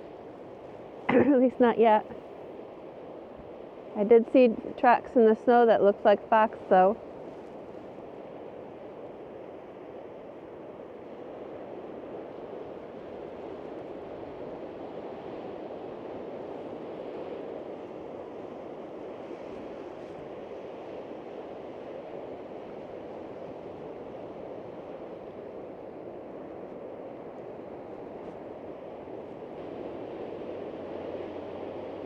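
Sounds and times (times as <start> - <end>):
wind: 0.0 - 32.0.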